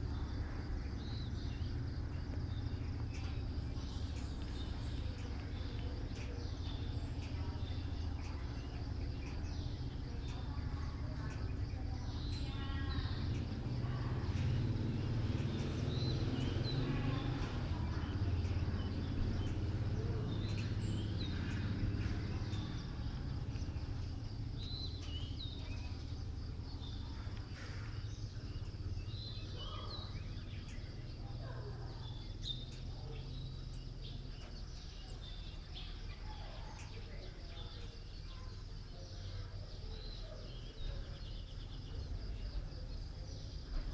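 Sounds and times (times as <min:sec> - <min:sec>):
steady low rumble: 0:00.0 - 0:36.2
bird chirps and calls: 0:00.0 - 0:43.9
high insect drone: 0:00.0 - 0:43.9.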